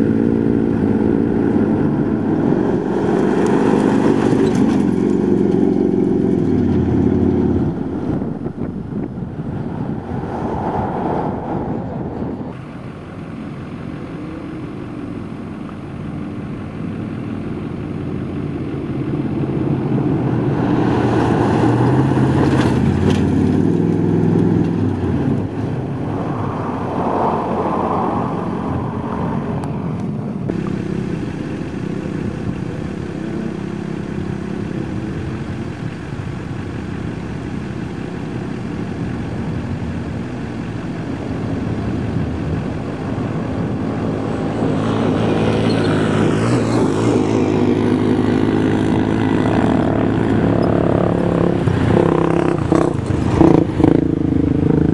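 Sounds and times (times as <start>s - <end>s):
truck engine revving: 0.0s - 54.9s.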